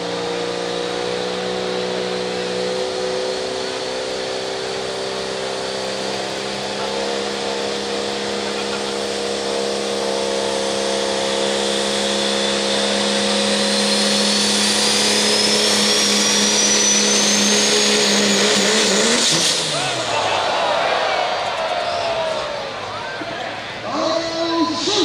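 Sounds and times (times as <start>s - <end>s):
turbocharger whistle: 0.0s - 23.2s
diesel engine running: 0.0s - 25.0s.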